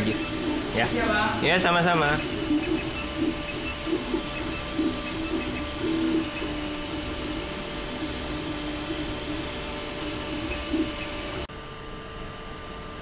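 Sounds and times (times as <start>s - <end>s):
stepper motors whining: 0.0s - 11.5s.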